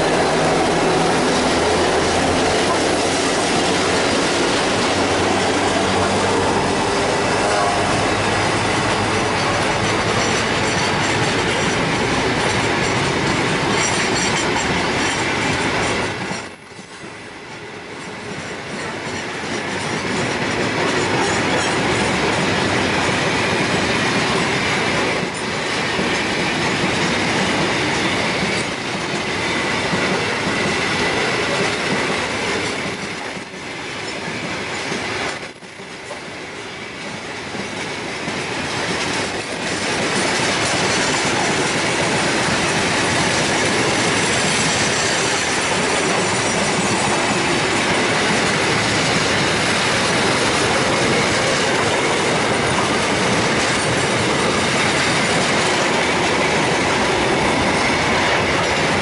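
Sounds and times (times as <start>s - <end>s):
steel wheels rolling on rails: 0.0s - 59.0s.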